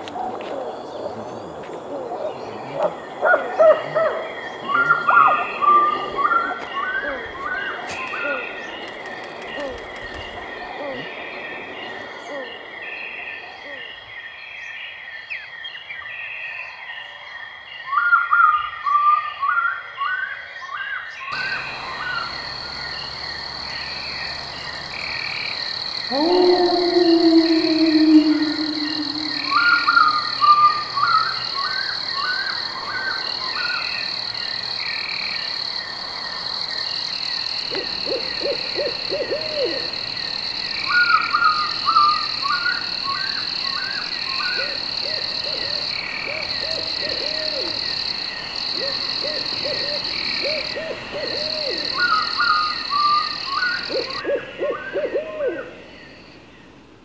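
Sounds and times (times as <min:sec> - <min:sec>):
frogs croaking: 0:00.0 - 0:57.0
insect chorus: 0:00.0 - 0:57.0.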